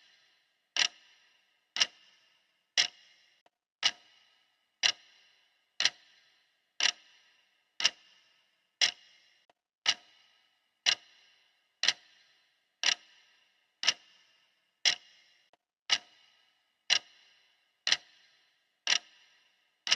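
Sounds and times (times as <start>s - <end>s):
clock ticking: 0.0s - 19.9s.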